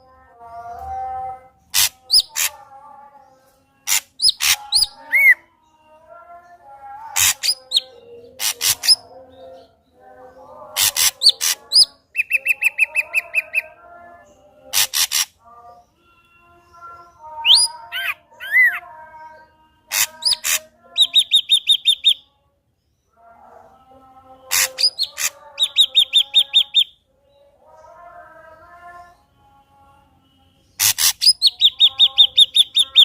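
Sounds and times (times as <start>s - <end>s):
bird singing: 0.0s - 33.0s.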